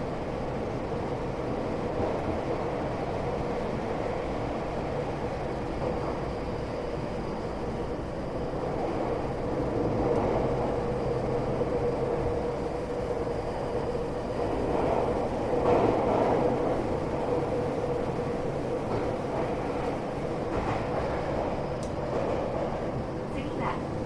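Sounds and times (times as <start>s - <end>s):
train hum and rail rumble: 0.0s - 24.0s.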